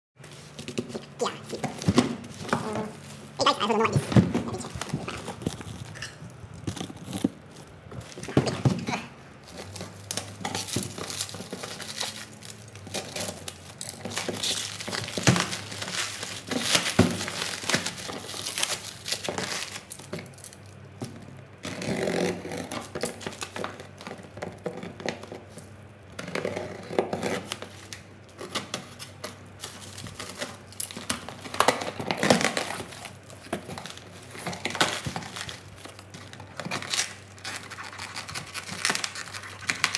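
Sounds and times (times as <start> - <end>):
plastic wrap crinkling and tearing: 0.2 - 39.9.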